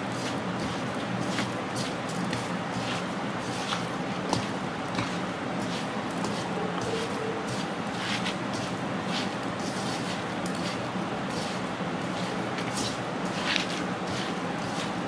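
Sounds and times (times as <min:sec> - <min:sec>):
food mixed by hand in pan: 0:00.0 - 0:15.0.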